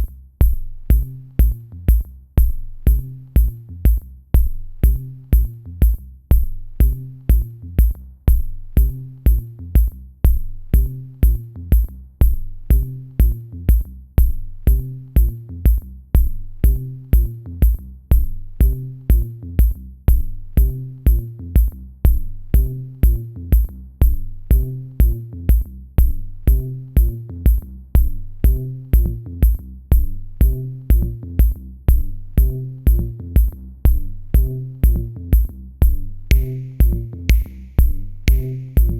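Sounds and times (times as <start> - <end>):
electronic music with drum-machine beat: 0.0 - 38.9.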